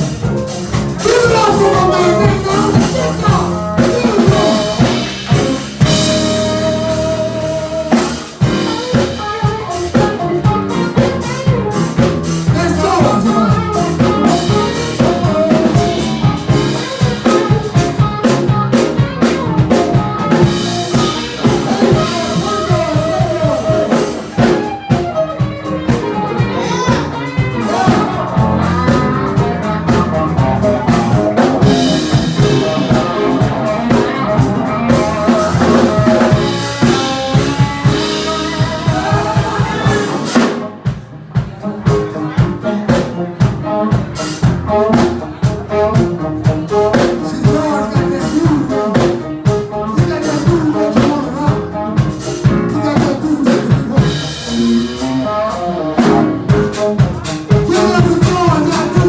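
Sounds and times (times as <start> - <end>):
bass guitar: 0.0 - 59.0
drum kit: 0.0 - 59.0
live soul band playing: 0.0 - 59.0.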